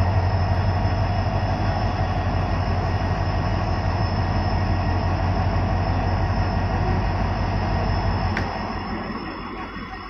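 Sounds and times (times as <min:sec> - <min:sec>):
low hum: 0:00.0 - 0:10.0
passenger train rolling past: 0:00.0 - 0:10.0.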